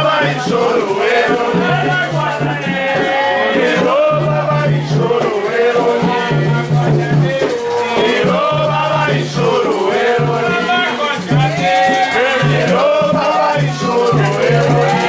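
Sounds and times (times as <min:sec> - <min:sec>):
percussion: 0:00.0 - 0:15.0
shaken rattle: 0:00.0 - 0:15.0
voices singing a chant: 0:00.0 - 0:15.0.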